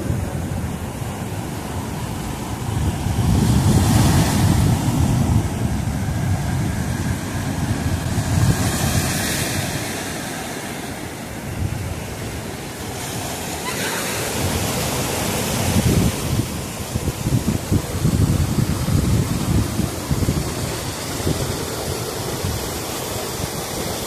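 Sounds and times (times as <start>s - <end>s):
wind rumbling on microphone: 0.0s - 13.4s, 14.4s - 24.0s
waves breaking on a beach: 0.0s - 24.0s.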